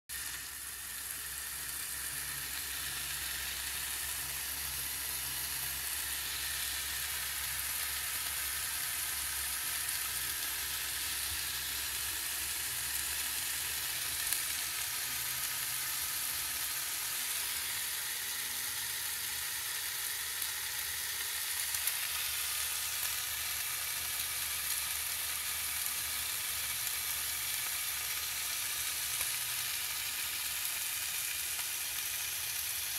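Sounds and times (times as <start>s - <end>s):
bacon sizzling in a pan: 0.1s - 32.9s.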